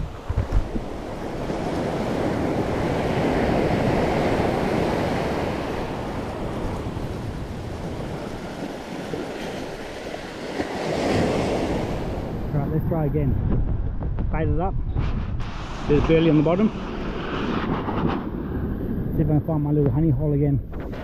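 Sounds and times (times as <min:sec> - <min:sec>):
surf washing onto beach: 0:00.0 - 0:13.5, 0:15.2 - 0:19.0
wind buffeting microphone: 0:00.0 - 0:21.0.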